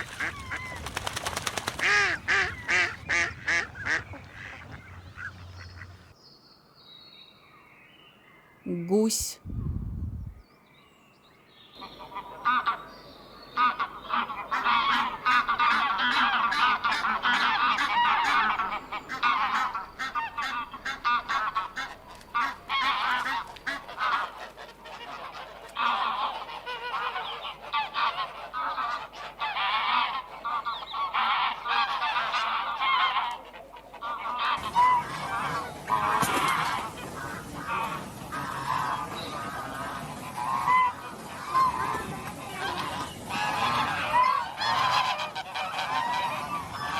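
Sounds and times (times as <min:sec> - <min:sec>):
geese honking: 0:01.8 - 0:06.1, 0:11.8 - 0:12.9, 0:13.6 - 0:46.9.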